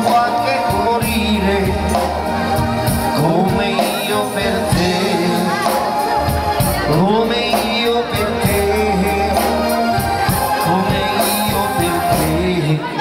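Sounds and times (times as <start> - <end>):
live band with singing: 0.0 - 13.0.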